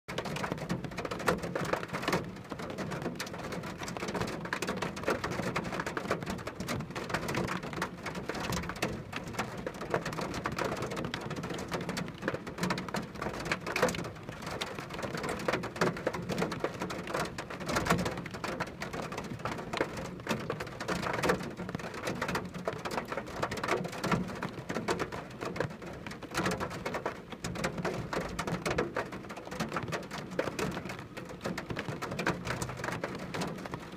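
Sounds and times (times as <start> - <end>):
rain drops pattering: 0.1 - 33.9.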